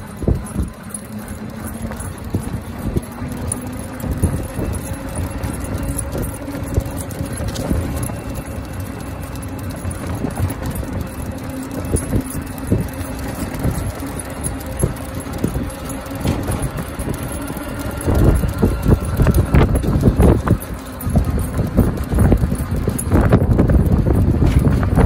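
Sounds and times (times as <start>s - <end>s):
leash and collar jingling: 0.0s - 25.0s
steady low hum: 0.0s - 25.0s.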